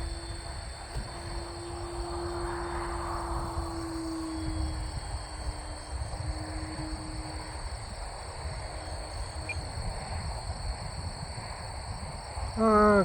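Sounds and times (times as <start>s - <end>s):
distant model airplane hum: 0.0s - 13.0s
high insect buzz: 0.0s - 13.0s
wind rumbling on microphone: 0.0s - 13.0s.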